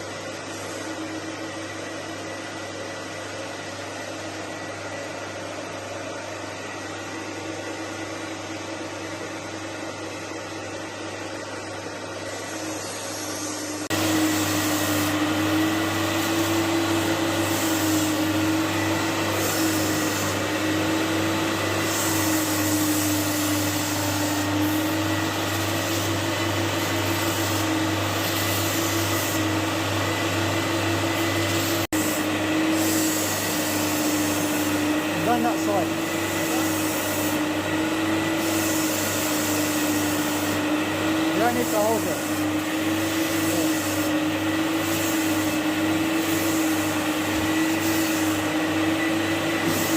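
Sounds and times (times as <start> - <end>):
vacuum motors running: 0.0 - 49.9.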